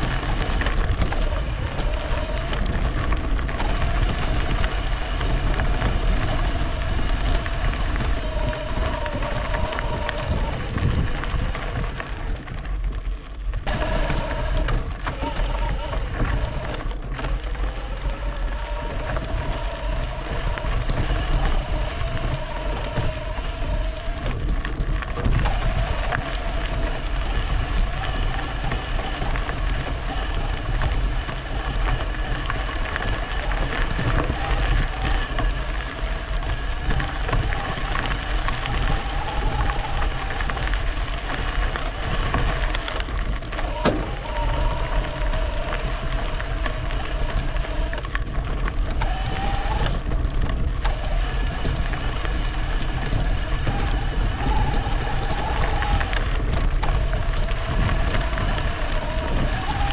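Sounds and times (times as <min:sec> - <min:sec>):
bike rattling over bumps: 0:00.0 - 0:59.9
wind buffeting microphone: 0:00.0 - 0:59.9.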